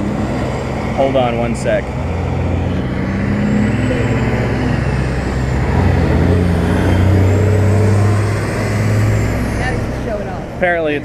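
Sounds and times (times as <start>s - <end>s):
trucks passing by: 0.0s - 11.0s.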